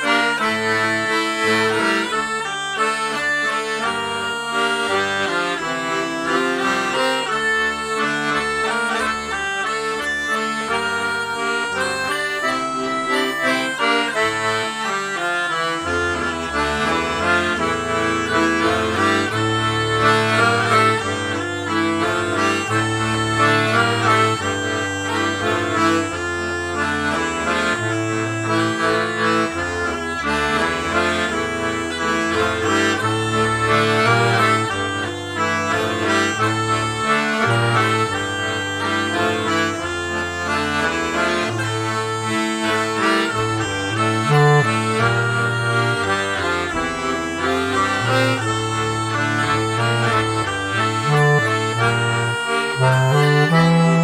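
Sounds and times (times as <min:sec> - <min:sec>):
bass clarinet: 0:00.0 - 0:54.0
melodeon waltz: 0:00.0 - 0:54.0
low bass line: 0:00.4 - 0:54.0.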